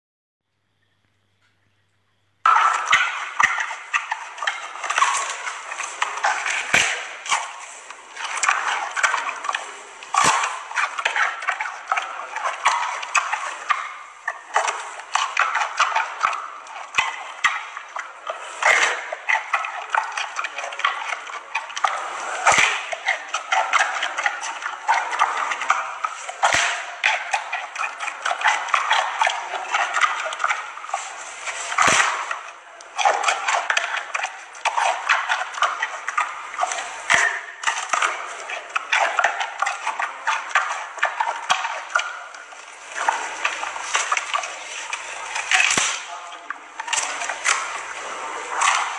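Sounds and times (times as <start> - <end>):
panda crunching bamboo: 2.5 - 42.2, 42.8 - 48.9.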